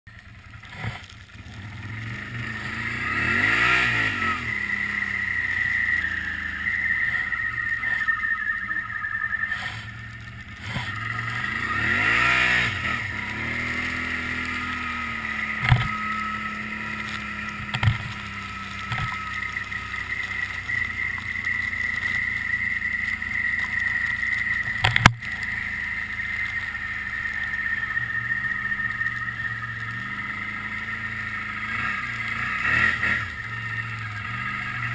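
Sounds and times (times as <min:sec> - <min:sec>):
atv engine revving: 0:00.1 - 0:34.9
steady high whine: 0:00.1 - 0:34.9.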